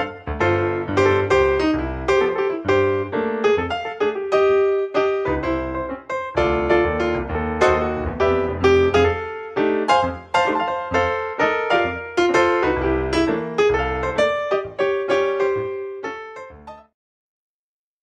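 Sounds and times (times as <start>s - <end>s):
piano notes and chords: 0.0s - 17.0s.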